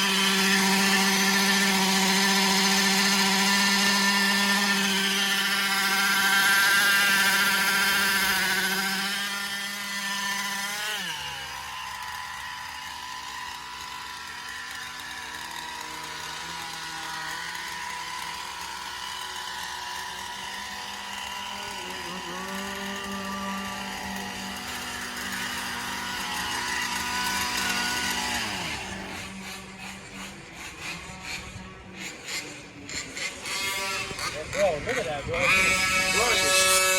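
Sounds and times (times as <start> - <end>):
two-stroke engines revving: 0.0 - 36.9.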